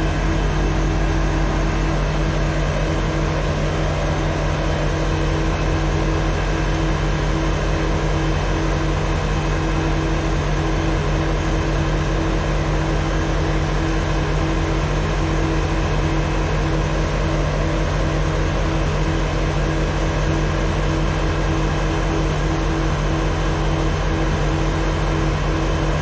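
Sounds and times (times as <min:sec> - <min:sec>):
diesel locomotive engine idling: 0:00.0 - 0:26.0.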